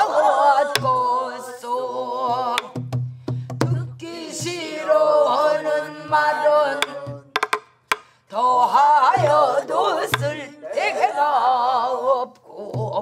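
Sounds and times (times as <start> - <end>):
group singing ornamented vocals: 0.0 - 2.9, 3.5 - 7.4, 8.3 - 13.0.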